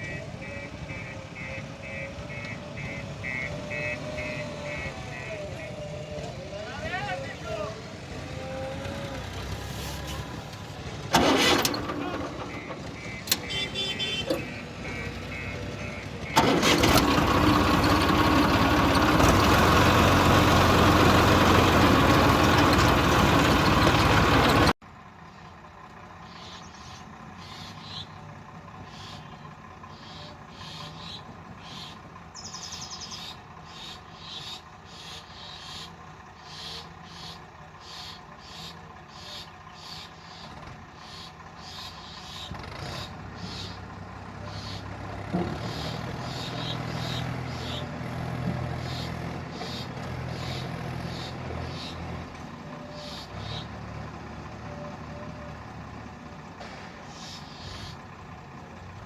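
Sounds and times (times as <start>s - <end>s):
diesel engines running: 0.0s - 59.0s.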